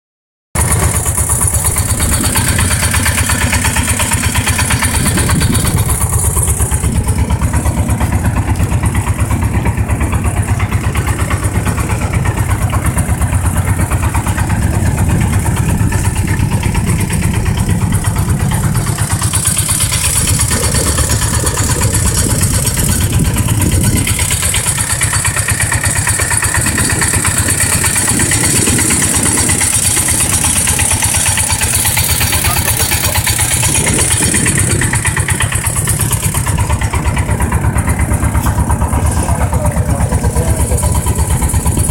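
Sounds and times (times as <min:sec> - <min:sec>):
motorboat engine puttering: 0:00.6 - 0:41.9.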